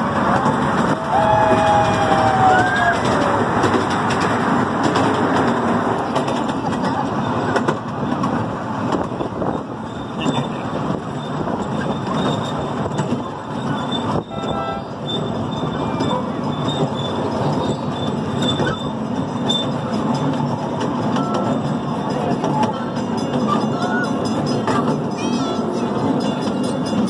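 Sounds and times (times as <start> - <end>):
train wheels clattering on rail: 0.0 - 27.0.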